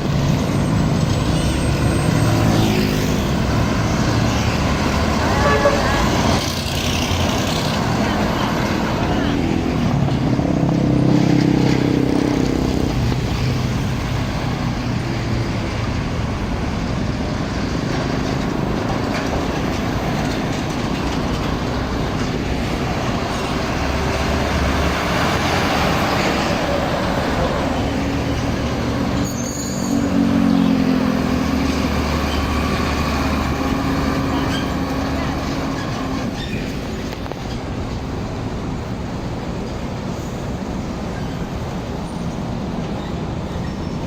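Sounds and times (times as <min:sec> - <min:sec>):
louder truck engine: 0:00.0 - 0:37.2
heavy trucks passing: 0:00.0 - 0:44.0.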